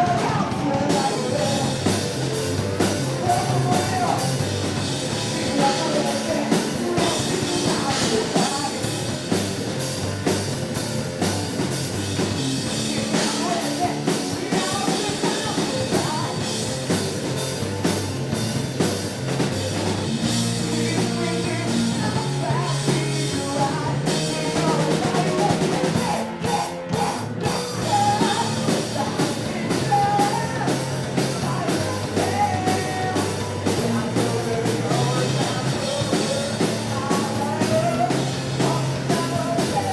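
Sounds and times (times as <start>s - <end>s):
person singing: 0.0s - 9.3s, 12.7s - 16.7s, 20.4s - 39.9s
bass guitar: 0.0s - 39.9s
drum kit: 0.0s - 39.9s
electric guitar: 0.0s - 39.9s.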